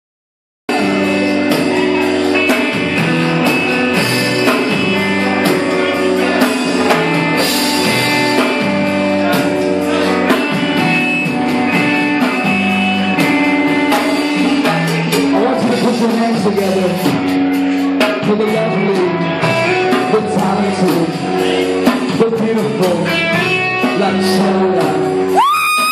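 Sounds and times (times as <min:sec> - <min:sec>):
drum kit beat: 0:00.7 - 0:25.9
rock band playing: 0:00.7 - 0:25.9.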